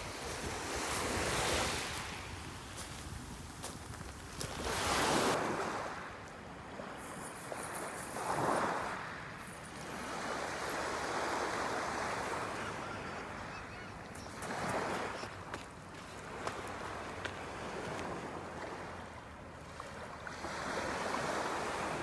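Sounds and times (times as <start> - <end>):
ocean waves breaking on beach: 0.0 - 3.8, 4.4 - 22.0.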